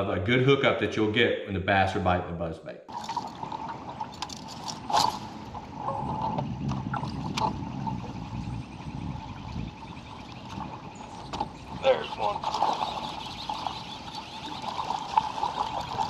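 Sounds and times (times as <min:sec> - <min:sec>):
wind and water rumble: 0:02.9 - 0:16.0.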